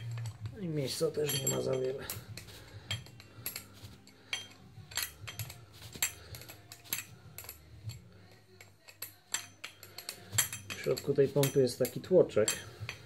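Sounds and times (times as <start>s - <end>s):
spanner clinking on bolts: 0.0s - 13.0s.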